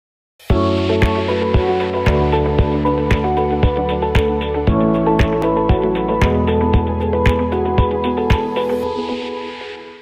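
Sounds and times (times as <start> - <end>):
intro music with chords and beat: 0.5 - 10.0.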